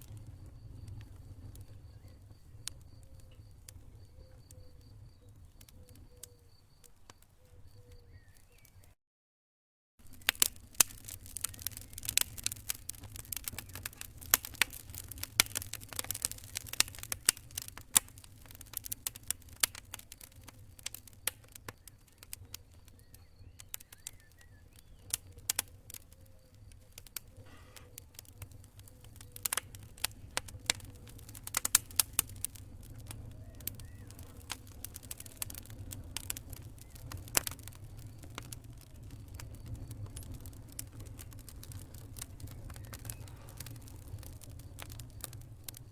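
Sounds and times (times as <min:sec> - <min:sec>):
campfire crackling: 0:00.0 - 0:08.9, 0:10.0 - 0:45.9.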